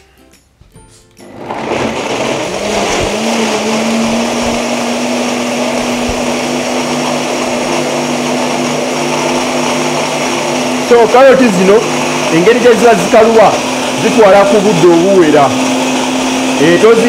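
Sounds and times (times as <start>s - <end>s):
blender motor running: 1.2s - 17.0s.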